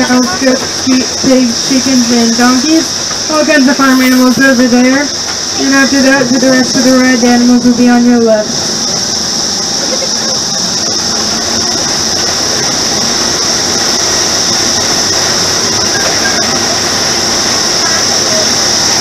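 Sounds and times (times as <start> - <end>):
miniature train engine: 0.0 - 19.0
steady high-pitched hiss: 0.0 - 19.0
wheels on rails: 0.0 - 19.0.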